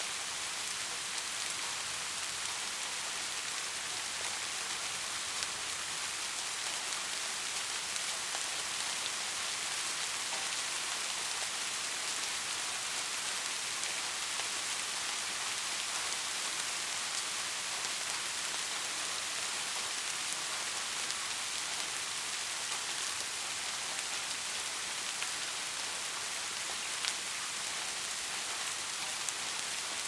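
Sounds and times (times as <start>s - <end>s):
heavy rain falling: 0.1s - 30.0s.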